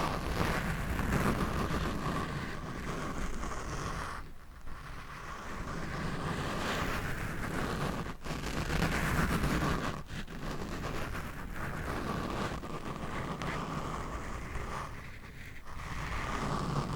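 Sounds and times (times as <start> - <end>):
scratching on microphone: 0.0 - 16.9.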